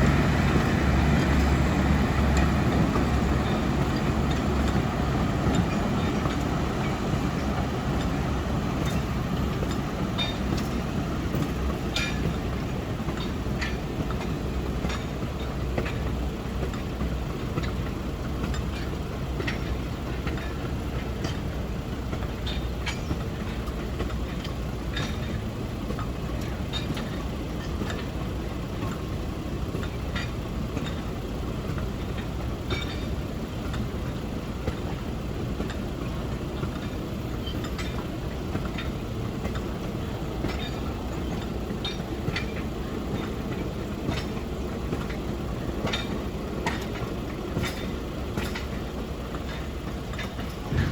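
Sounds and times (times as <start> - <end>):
train rumble: 0.0 - 50.9
train wheels clicking over rail joints: 0.0 - 50.9.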